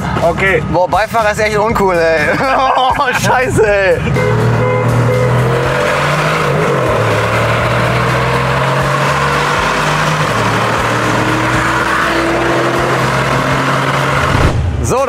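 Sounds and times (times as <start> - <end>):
car engine accelerating: 0.0 - 14.8
wind and tyre roar: 0.0 - 15.0.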